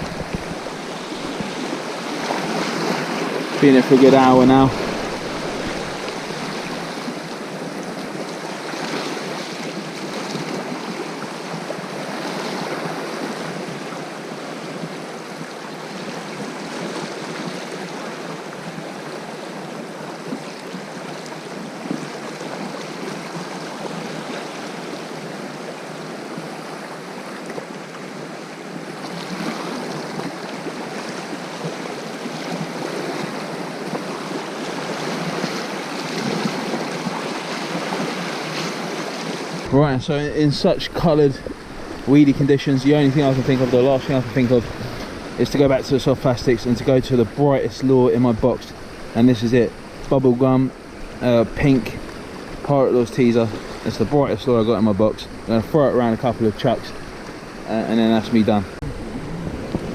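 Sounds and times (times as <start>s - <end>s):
sea waves washing against shore: 0.0s - 59.9s.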